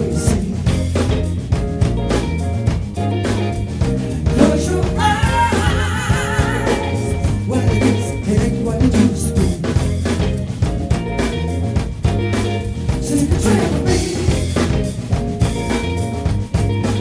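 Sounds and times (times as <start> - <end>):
soul band playing live: 0.0 - 17.0
steady drum beat: 0.0 - 17.0
sustained bass line: 0.0 - 17.0.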